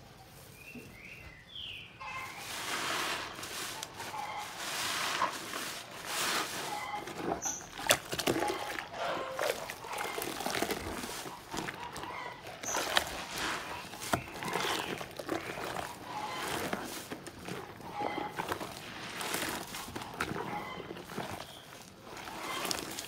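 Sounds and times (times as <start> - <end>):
wet sponge squelching: 2.0 - 23.0.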